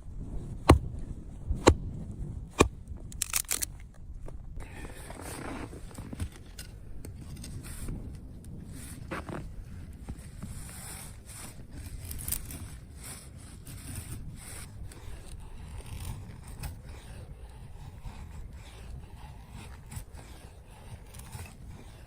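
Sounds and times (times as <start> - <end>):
steady low rumble: 0.0 - 21.8.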